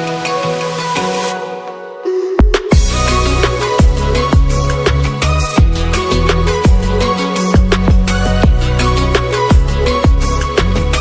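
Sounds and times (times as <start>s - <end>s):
electronic music with kick drum: 0.0s - 11.0s.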